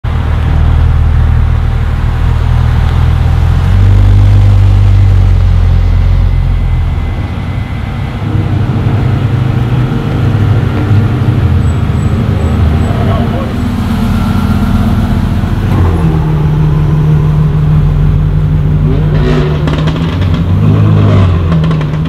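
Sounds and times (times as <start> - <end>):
car engine driving by: 0.0 - 22.0.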